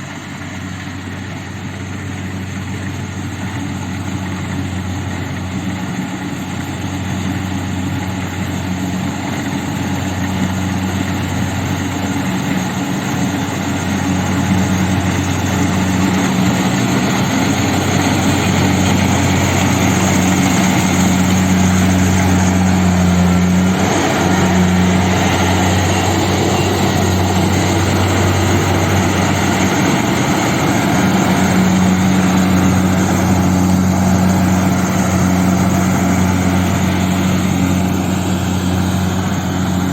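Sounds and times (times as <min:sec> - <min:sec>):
combine harvester engine humming: 0:00.0 - 0:39.9.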